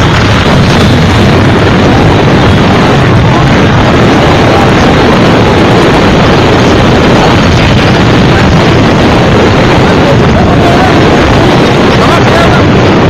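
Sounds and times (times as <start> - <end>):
loud bass-heavy roar: 0.0 - 13.0.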